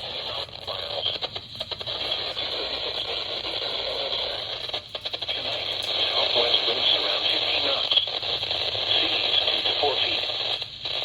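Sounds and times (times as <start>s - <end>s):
radio static hiss with crackles: 0.0s - 11.0s.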